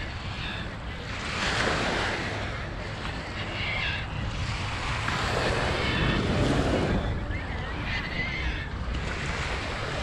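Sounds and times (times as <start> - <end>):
waves washing onto beach: 0.0 - 10.0
wind rumble on microphone: 0.0 - 10.0.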